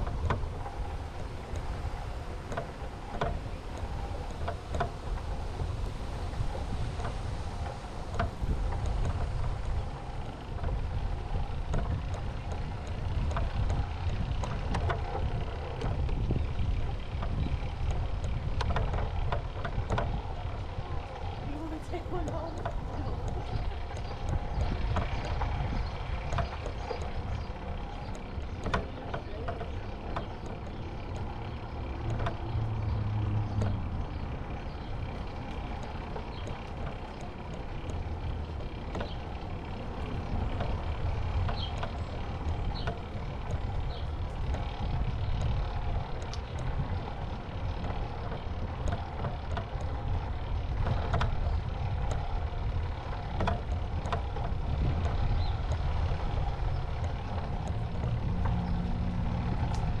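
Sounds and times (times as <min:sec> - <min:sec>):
bicycle tyres rolling on concrete: 0:00.0 - 1:00.0
light clicks: 0:00.0 - 1:00.0
wind rumble on microphone: 0:00.0 - 1:00.0.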